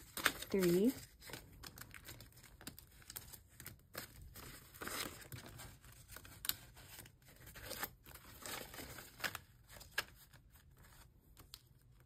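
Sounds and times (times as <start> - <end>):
paper banknotes rustling and crinkling: 0.0 - 12.0.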